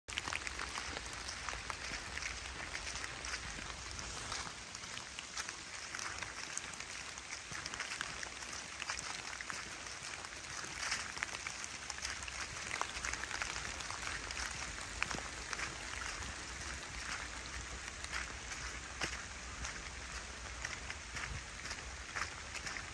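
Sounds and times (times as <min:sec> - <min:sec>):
rain falling on trees and leaves: 0:00.1 - 0:22.9.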